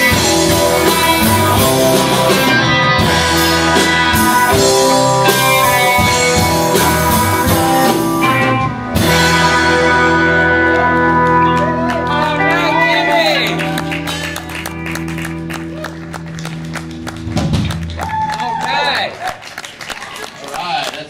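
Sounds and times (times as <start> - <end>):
drum kit: 0.0 - 12.8, 13.4 - 18.6
electric bass: 0.0 - 19.2
electric guitars: 0.0 - 19.6.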